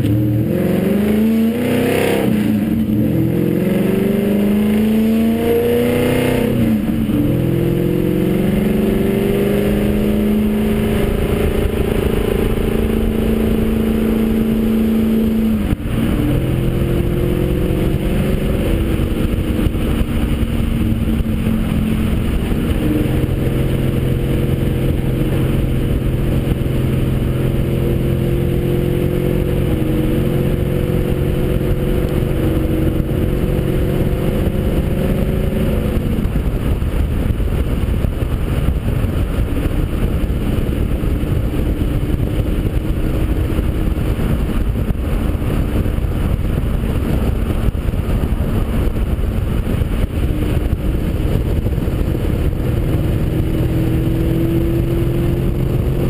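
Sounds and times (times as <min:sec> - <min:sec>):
car engine driving: 0:00.0 - 0:56.0
road and wind noise: 0:00.0 - 0:56.0.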